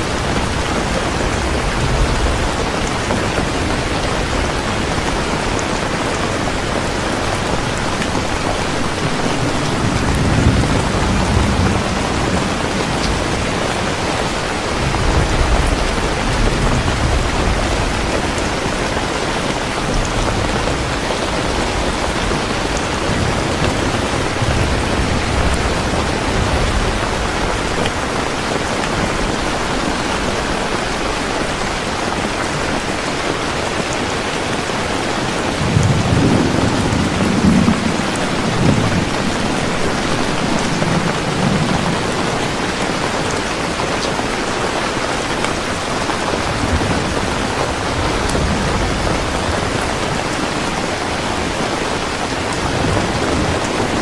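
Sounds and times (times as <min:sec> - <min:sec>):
low thunder rumbling: 0:00.0 - 0:31.9, 0:35.1 - 0:44.0, 0:44.8 - 0:54.0
heavy rain falling: 0:00.0 - 0:54.0.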